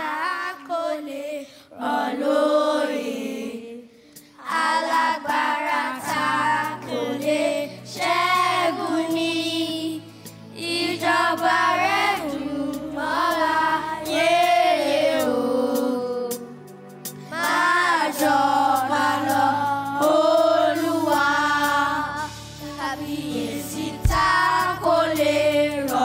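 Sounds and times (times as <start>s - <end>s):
children singing into microphones: 0.0s - 16.6s, 17.2s - 26.0s
backing music: 4.1s - 26.0s.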